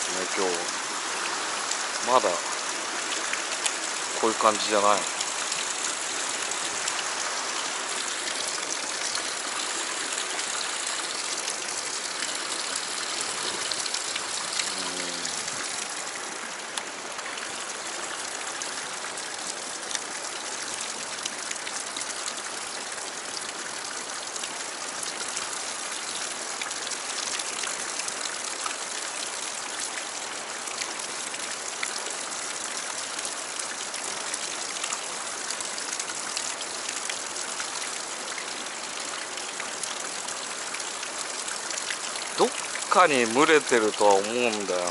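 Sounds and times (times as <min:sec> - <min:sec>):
stream water rushing over rocks: 0:00.0 - 0:44.9.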